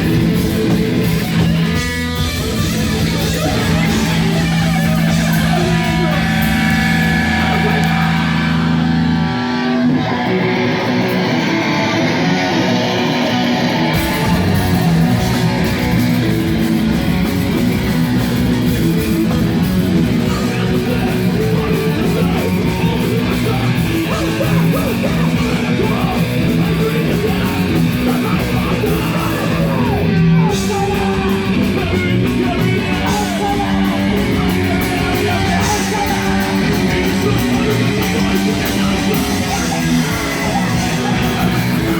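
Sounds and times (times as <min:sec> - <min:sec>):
distorted electric guitars: 0:00.0 - 0:41.9
rock band playing live: 0:00.0 - 0:41.9.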